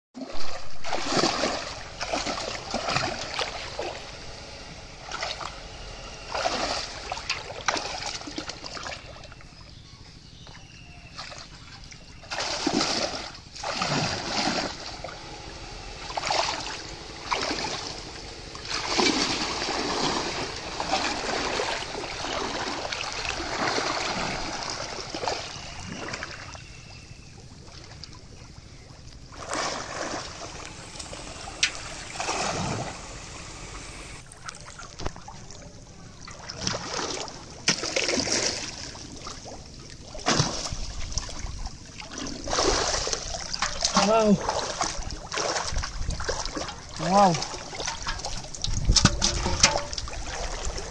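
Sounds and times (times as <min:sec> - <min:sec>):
water splashing and sloshing: 0:00.2 - 0:09.8, 0:10.4 - 0:50.9.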